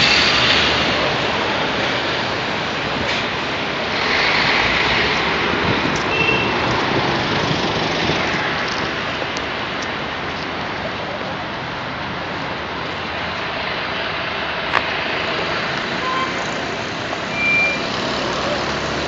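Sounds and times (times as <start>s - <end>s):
vehicles driving past: 0.0s - 19.0s.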